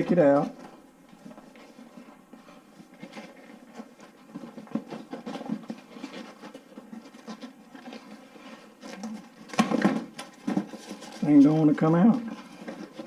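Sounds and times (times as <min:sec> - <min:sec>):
packaging rustling and scraping: 0:00.0 - 0:13.0.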